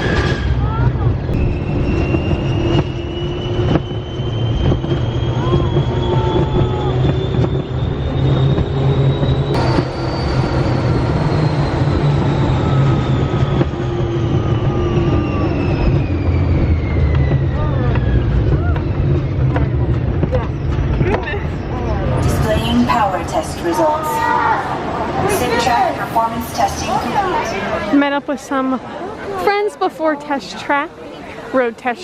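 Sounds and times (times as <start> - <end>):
ride vehicle rumbling on track: 0.0 - 32.0
electronic rising tone effects: 1.3 - 27.8.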